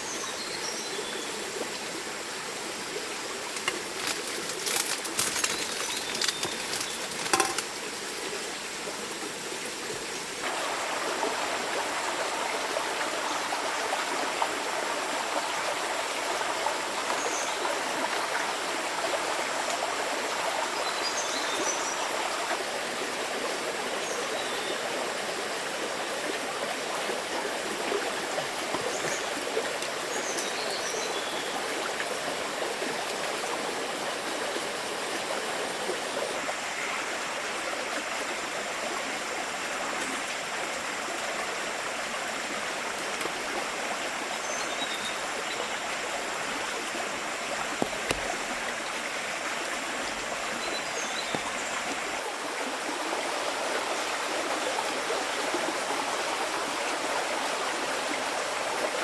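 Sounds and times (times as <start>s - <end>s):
flowing stream water: 0.0s - 59.0s.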